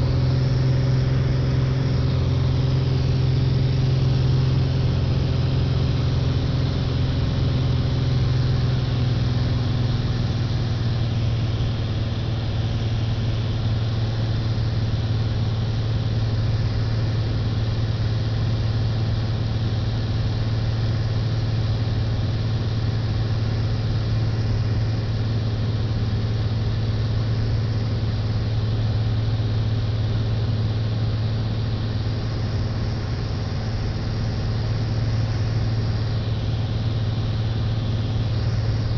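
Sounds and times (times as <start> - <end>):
small plane engine humming: 0.0 - 38.9.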